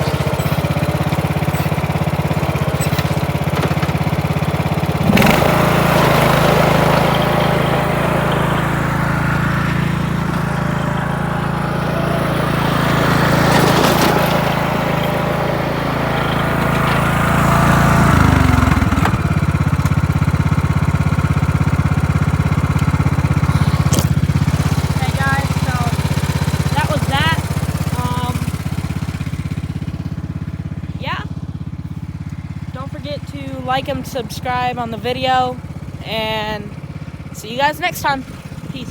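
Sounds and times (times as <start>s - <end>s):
riding lawn mower engine: 0.0s - 38.9s.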